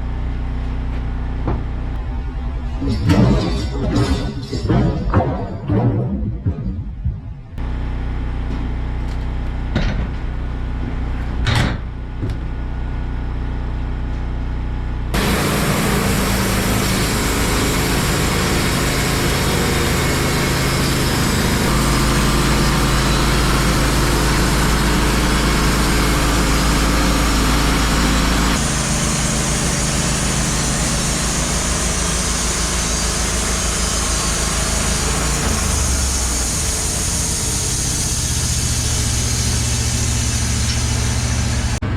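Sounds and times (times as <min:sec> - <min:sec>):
sawmill engine running: 0:00.0 - 0:09.3, 0:15.1 - 0:41.9.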